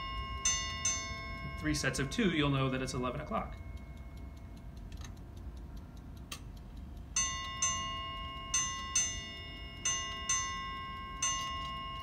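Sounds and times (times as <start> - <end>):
clock ticking: 0.0 - 12.0
ship's bell clock striking: 0.0 - 12.0.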